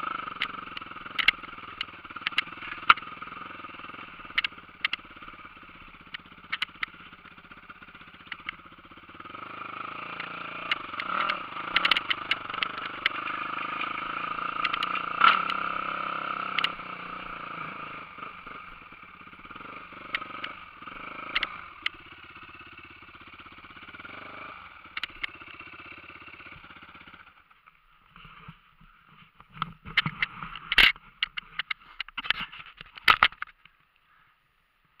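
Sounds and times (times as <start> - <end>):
dirt bike engine at low revs: 0.0 - 35.0.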